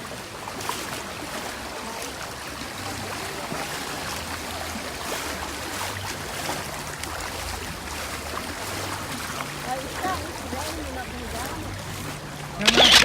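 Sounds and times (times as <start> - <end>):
rushing splashing water: 0.0 - 13.0.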